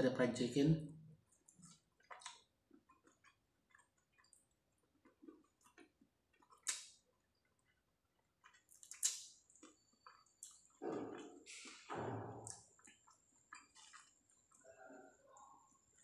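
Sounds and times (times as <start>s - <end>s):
chewing crispy food: 1.1s - 16.0s.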